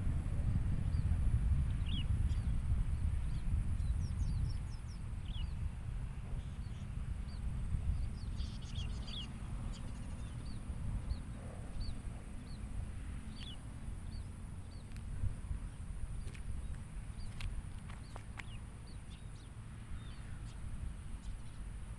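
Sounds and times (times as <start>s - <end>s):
steady low rumble: 0.0s - 21.9s
small birds chirping: 0.8s - 21.8s.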